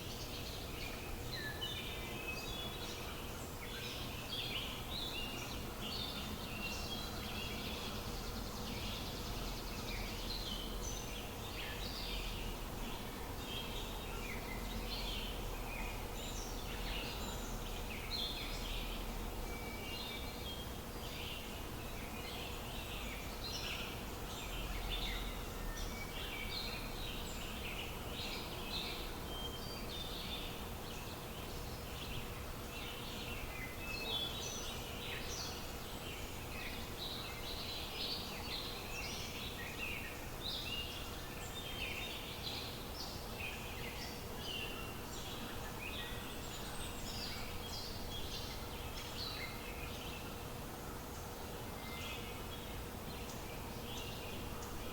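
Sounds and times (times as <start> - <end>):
faint constant hum: 0.0 - 54.9.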